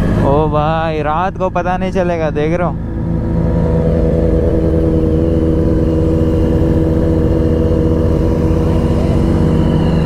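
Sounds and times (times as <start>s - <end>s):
motorcycle engine at steady revs: 0.0s - 10.0s.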